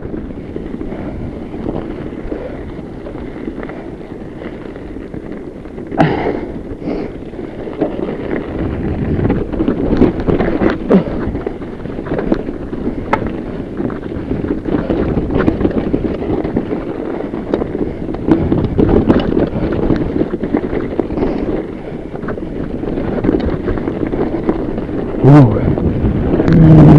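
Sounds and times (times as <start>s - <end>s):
bike rattling over rocks: 0.0s - 26.9s
tyres rumbling on dirt: 0.0s - 26.9s
wind buffeting microphone: 0.0s - 26.9s.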